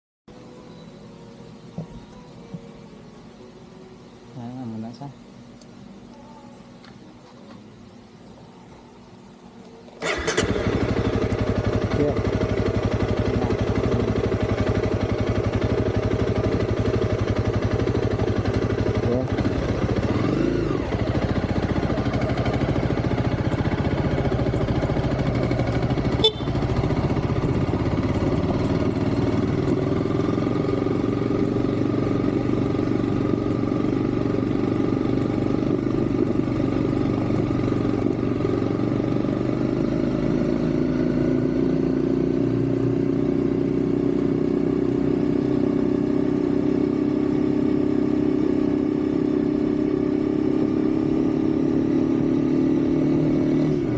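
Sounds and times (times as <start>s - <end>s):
motorcycle engine running: 10.0s - 53.9s.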